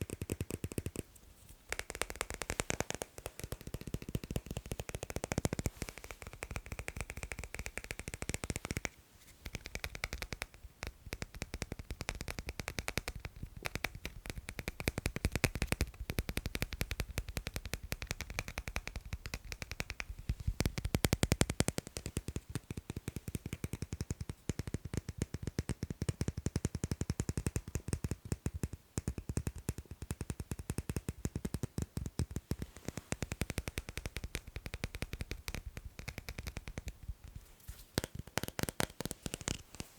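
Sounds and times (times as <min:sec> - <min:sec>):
fast tapping on magnets: 0:00.0 - 0:01.1, 0:01.7 - 0:39.9.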